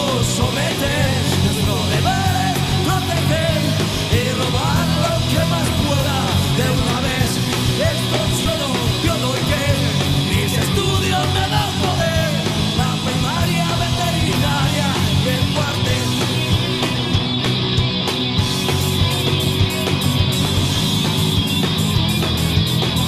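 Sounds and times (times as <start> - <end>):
bass guitar: 0.0 - 23.0
drums: 0.0 - 23.0
electric guitars: 0.0 - 23.0.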